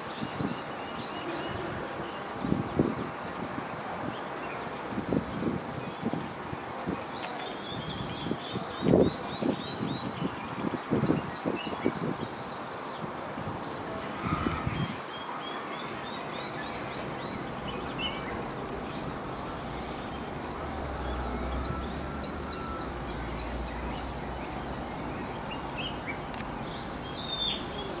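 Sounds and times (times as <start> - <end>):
small birds chirping: 0.0 - 28.0
steady background hiss: 0.0 - 28.0.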